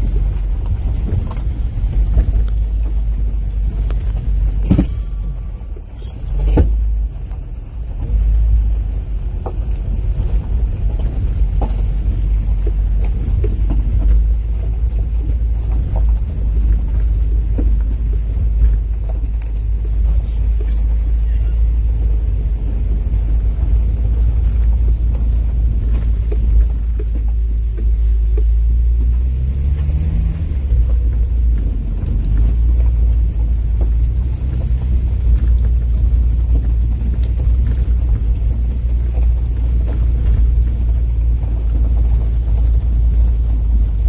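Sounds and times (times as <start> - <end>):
tyres on gravel track: 0.0 - 44.0
vehicle engine rumble: 0.0 - 44.0.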